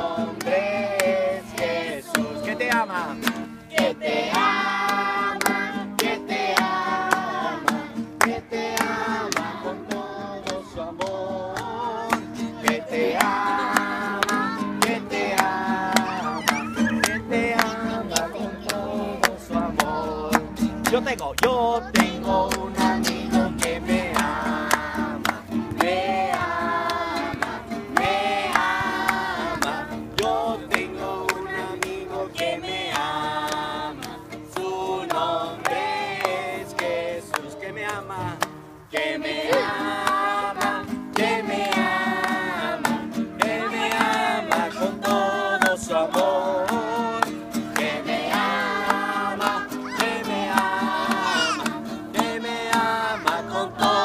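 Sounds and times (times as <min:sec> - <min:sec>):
group singing in unison: 0:00.0 - 0:54.0
strummed acoustic guitar: 0:00.0 - 0:54.0.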